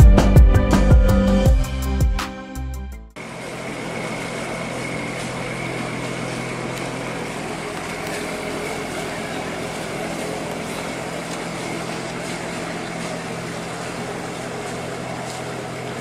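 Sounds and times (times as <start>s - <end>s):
ship engine droning: 0.0s - 16.0s.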